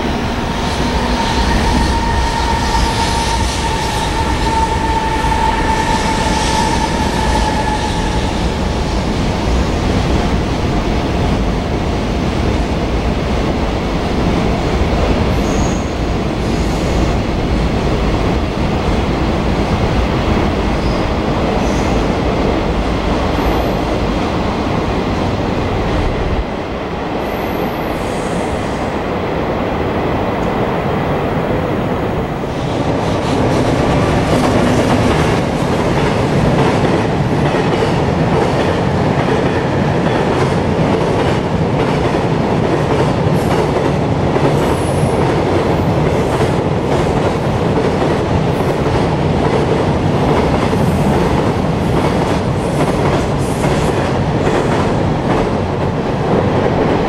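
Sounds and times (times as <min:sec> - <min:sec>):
freight train wheels rumbling: 0:00.0 - 0:57.0
train whine: 0:00.0 - 0:57.0.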